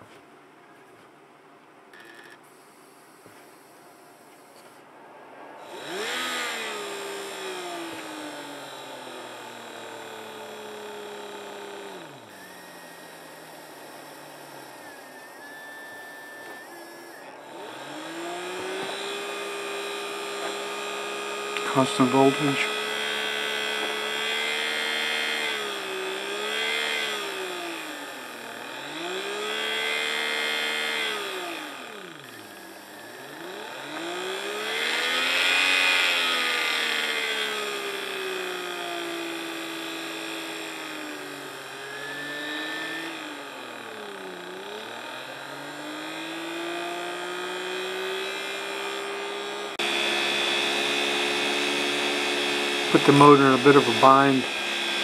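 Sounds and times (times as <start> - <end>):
small electric motor whining: 1.9 - 55.0.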